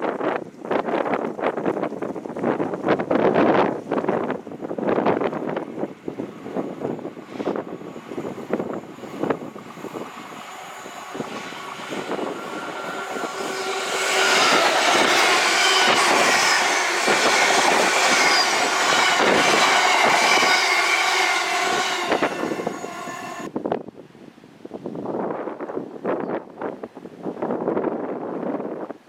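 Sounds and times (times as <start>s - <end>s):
train passing close by: 0.1s - 23.5s.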